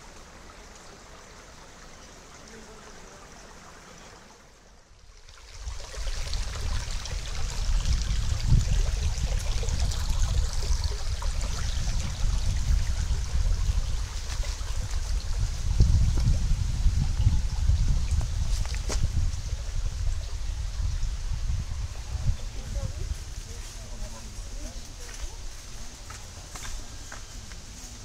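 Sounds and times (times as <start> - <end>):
stream water running: 0.0 - 28.0.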